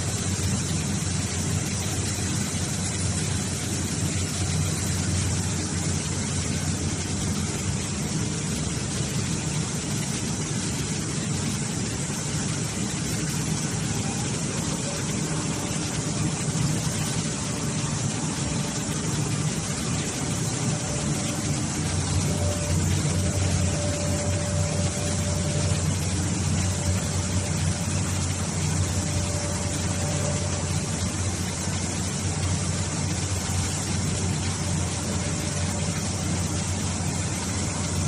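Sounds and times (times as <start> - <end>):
hydraulic baler humming: 0.0 - 38.0.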